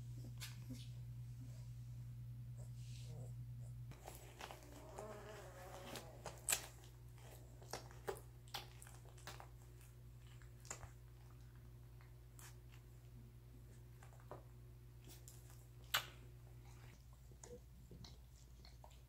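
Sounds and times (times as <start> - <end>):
soft puppy vocalization: 0.0 - 19.0.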